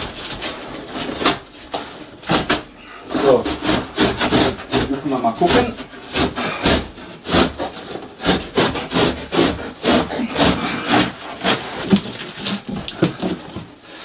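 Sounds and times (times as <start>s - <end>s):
knife sawing through cardboard: 2.2s - 14.0s.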